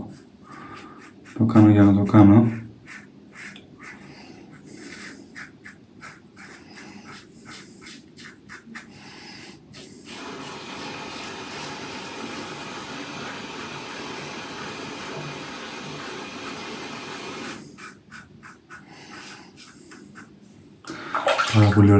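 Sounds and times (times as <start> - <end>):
steady even hiss: 2.8 - 21.0.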